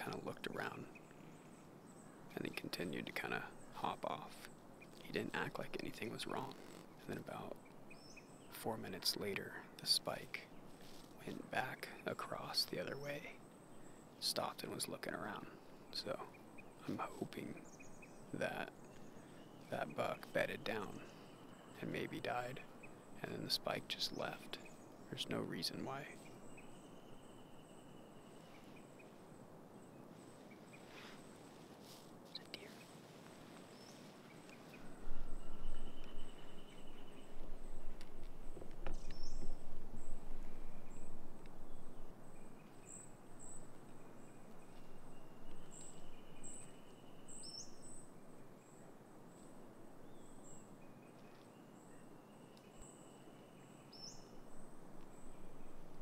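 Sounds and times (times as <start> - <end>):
birds chirping: 0.0 - 56.0
faint high-pitched insect tone: 7.3 - 56.0.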